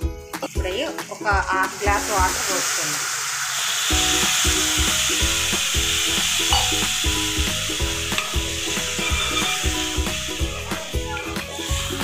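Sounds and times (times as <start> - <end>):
background music with beat: 0.0 - 2.3, 3.9 - 12.0
water hissing in hot pan: 0.0 - 12.0.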